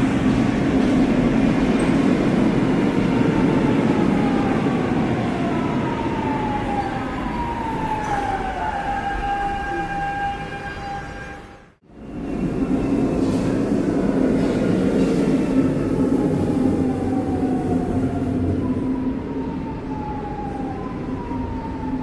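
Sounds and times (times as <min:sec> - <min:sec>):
train whine: 0:00.0 - 0:21.3
metro train rumble: 0:00.0 - 0:22.0.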